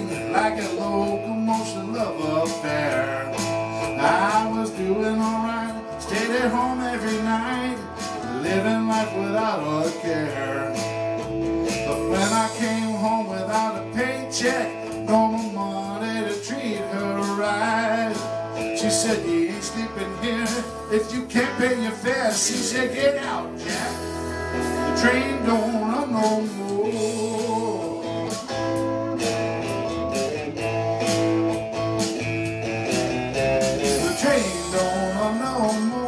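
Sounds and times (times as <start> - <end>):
man singing: 0.0 - 11.1, 11.8 - 24.2, 24.8 - 28.5, 33.8 - 36.0
backing track music: 0.0 - 36.0
guitar: 0.0 - 36.0.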